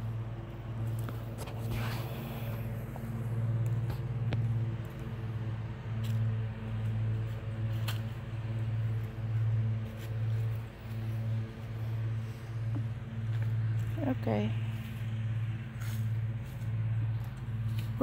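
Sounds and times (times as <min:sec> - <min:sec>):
machine low hum: 0:00.0 - 0:18.0.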